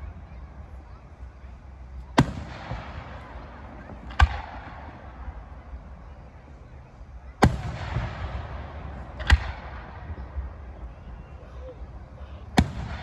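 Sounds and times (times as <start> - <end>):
firework exploding: 0.8 - 13.0.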